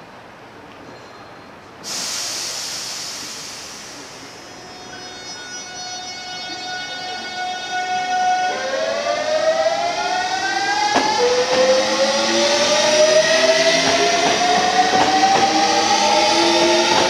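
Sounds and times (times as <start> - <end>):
electric train motors whining: 2.7 - 17.0.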